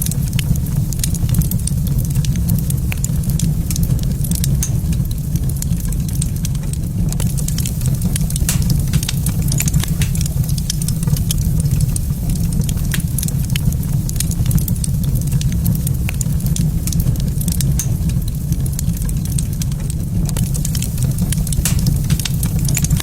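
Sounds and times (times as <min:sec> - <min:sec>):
steady low rumble: 0:00.0 - 0:23.0
wood fire crackling: 0:00.0 - 0:23.0
sharp pops and snaps: 0:00.9 - 0:23.0.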